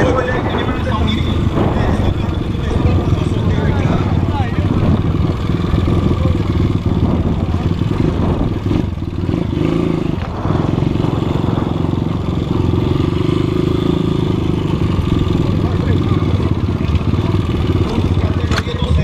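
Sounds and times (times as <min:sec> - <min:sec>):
motorcycle engine under throttle: 0:00.0 - 0:19.0.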